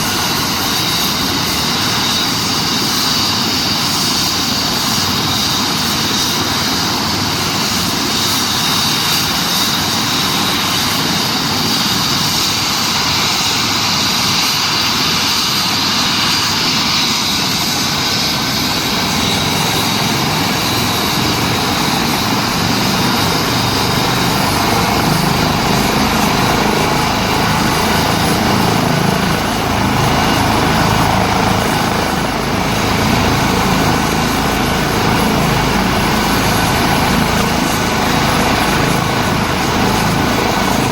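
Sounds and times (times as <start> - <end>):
helicopter rotor: 0.0 - 40.9
helicopter turbine whine: 0.0 - 40.9.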